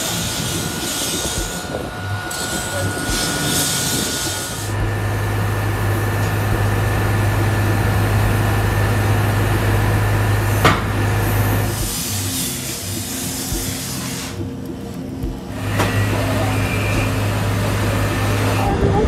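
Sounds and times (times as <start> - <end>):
fire engine drone: 0.0 - 19.0.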